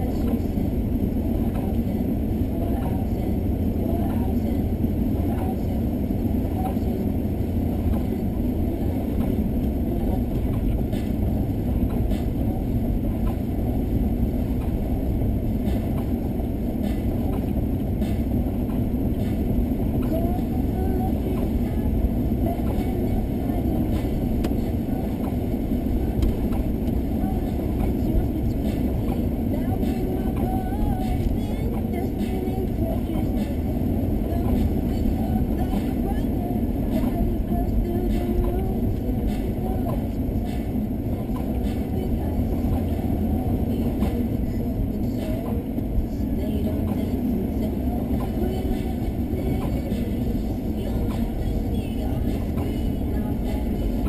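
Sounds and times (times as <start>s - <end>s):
car engine drone: 0.0s - 54.0s.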